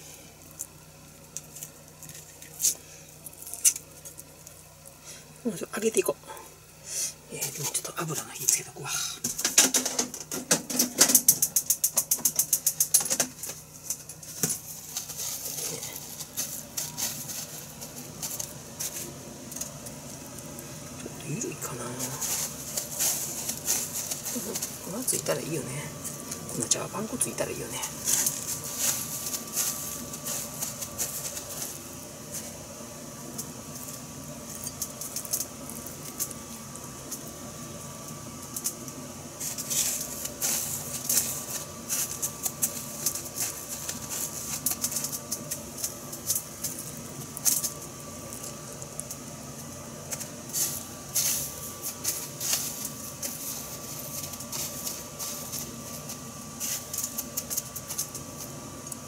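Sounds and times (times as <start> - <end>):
breadcrumbs rustling and crackling: 0.0 - 9.2, 11.1 - 59.0
faint hum: 0.0 - 59.0.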